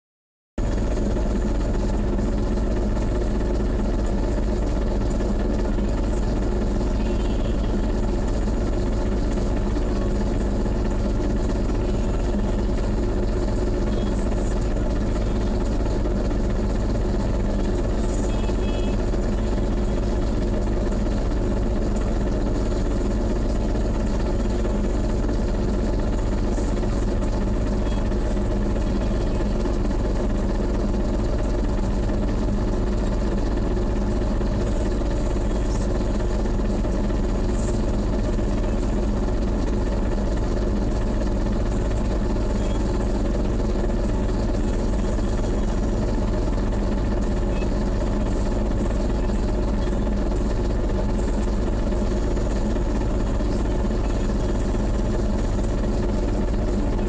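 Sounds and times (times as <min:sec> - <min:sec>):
engine idling: 0:00.6 - 0:57.0.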